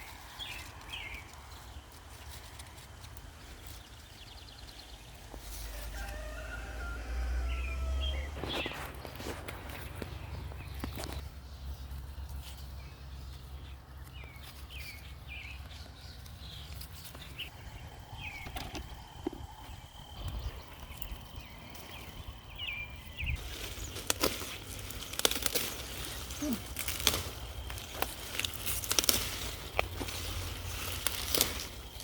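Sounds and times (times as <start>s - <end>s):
small birds chirping: 0.0s - 6.2s, 6.8s - 32.0s
clicks and rustles of plants: 0.0s - 17.5s, 18.2s - 32.0s.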